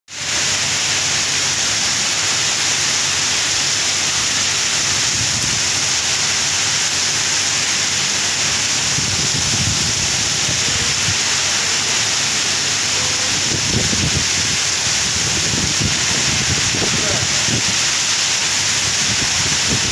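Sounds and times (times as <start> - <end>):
heavy rain pouring: 0.1 - 19.9.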